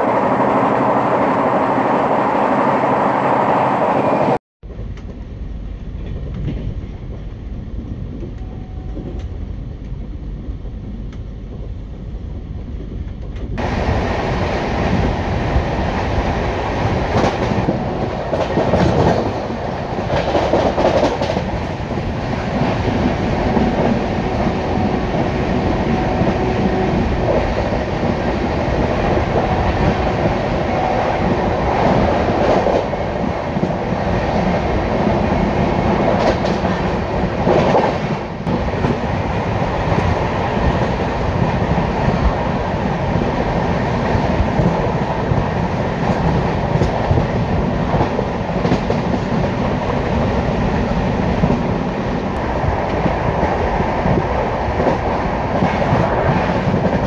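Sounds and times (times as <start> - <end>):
train wheels on track rushing: 0.0 - 57.0.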